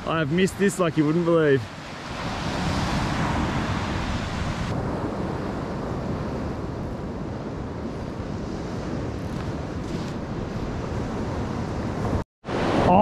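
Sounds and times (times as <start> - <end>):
surf breaking on beach: 0.0 - 13.0
wind buffeting microphone: 1.6 - 13.0.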